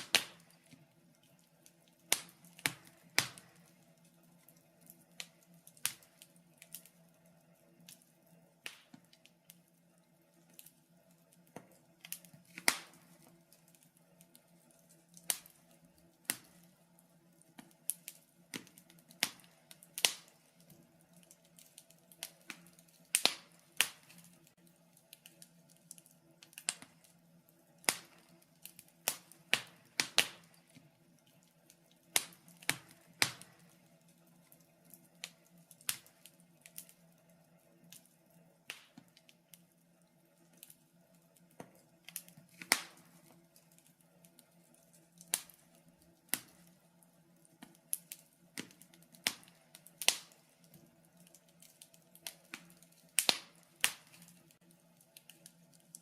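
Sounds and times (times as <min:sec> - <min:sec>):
faint steady hum: 0:00.0 - 0:56.0
wood fire crackling: 0:00.0 - 0:56.0.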